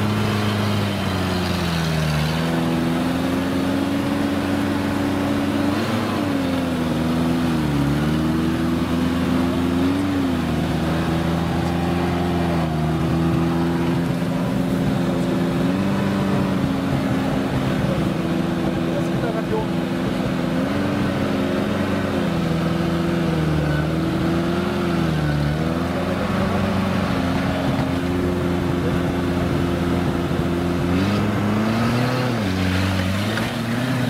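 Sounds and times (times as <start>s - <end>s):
off-road vehicle engine at low revs: 0.0s - 34.0s.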